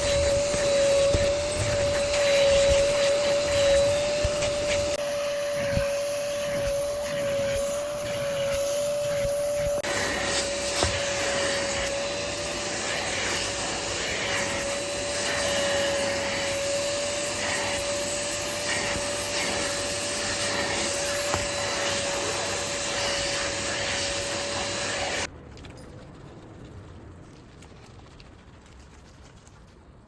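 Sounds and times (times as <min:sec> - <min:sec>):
rushing air: 0:00.0 - 0:25.3
upholstery cleaner suction motor whine: 0:00.0 - 0:25.3.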